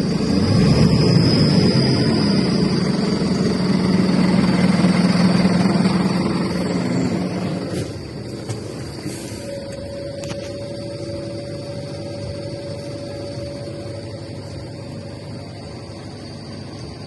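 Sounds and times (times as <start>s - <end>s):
steady engine whine: 0.0s - 17.0s
truck engine running: 0.0s - 17.0s.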